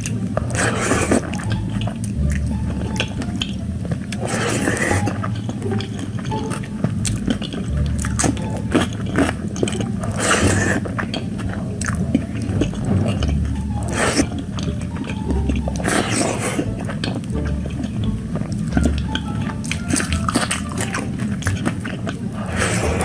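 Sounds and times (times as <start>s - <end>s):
wet chewing with mouth clicks: 0.0s - 23.0s.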